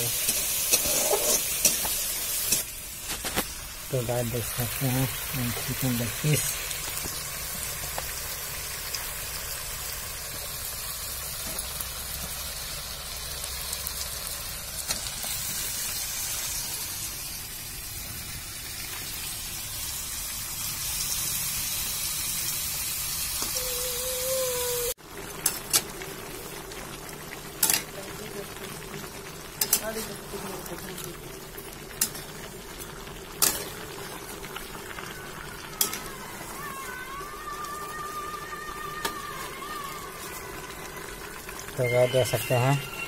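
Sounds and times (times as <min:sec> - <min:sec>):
chicken sizzling in hot oil: 0:00.0 - 0:43.0.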